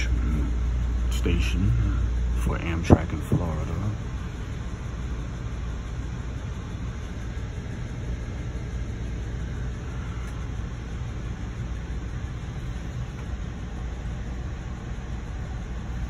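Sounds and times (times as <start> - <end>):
train coach rumble: 0.0 - 16.0.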